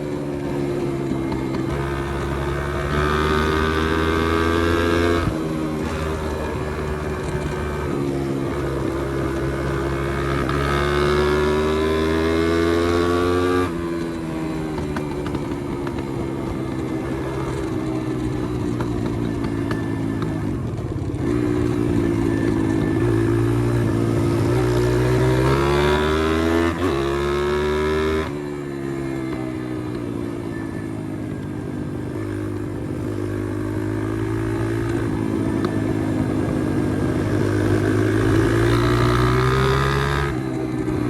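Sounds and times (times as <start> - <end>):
pit bike engine revving: 0.0 - 30.8, 32.2 - 41.0.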